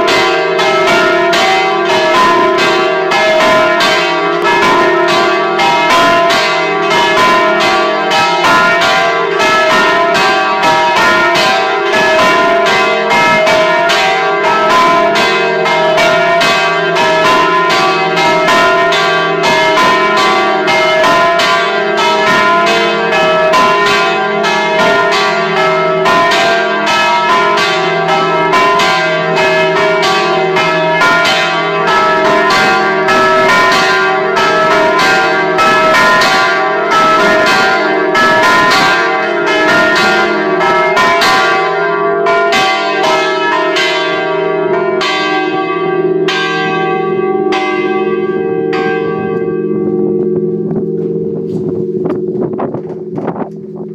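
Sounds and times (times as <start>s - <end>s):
church bells ringing: 0.0s - 53.9s.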